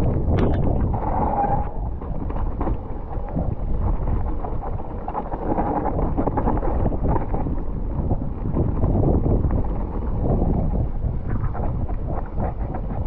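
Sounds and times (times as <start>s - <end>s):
bike rattling and knocking: 0.0s - 13.0s
bike tyres rumbling on dirt: 0.0s - 13.0s
wind rushing over microphone: 0.0s - 13.0s.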